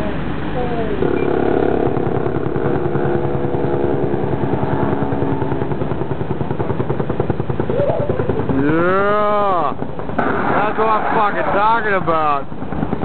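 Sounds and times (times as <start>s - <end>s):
vehicle engine running steadily: 0.0s - 13.0s.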